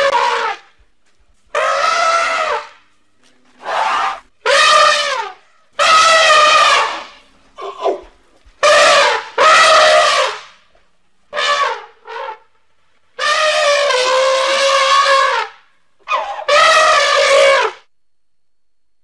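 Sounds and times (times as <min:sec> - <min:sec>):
elephant-like trumpet calls: 0:00.0 - 0:00.8, 0:01.5 - 0:02.8, 0:03.5 - 0:10.6, 0:11.3 - 0:12.6, 0:13.2 - 0:17.9.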